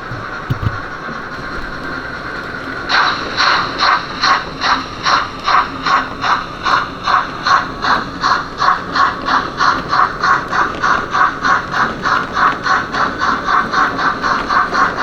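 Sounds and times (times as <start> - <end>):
model train running: 0.0 - 15.0.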